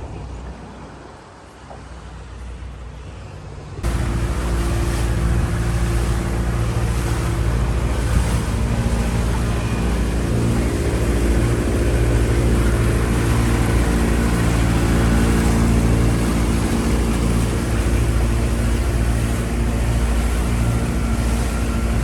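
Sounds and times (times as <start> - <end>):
motorboat engine running: 3.8 - 22.0
wind and water rushing: 3.8 - 22.0.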